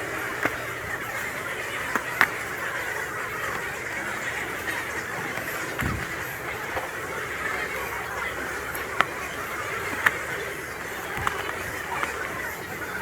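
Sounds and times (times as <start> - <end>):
murmur of crowd chatter: 0.0 - 13.0.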